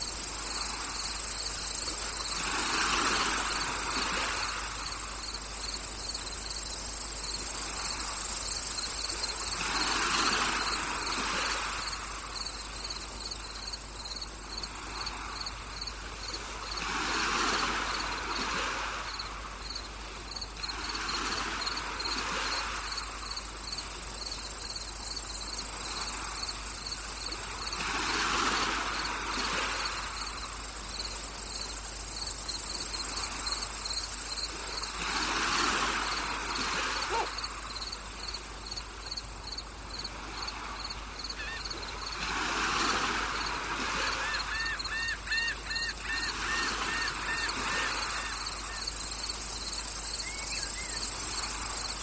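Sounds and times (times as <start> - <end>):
soft rush of noise: 0.0 - 44.2
crickets and insects chirping: 0.0 - 52.0.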